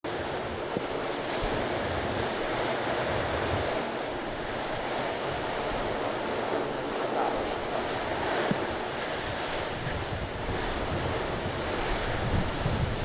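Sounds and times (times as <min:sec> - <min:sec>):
heavy rain: 0:00.0 - 0:13.0
strong wind: 0:00.0 - 0:13.0
wind buffeting microphone: 0:00.1 - 0:13.0.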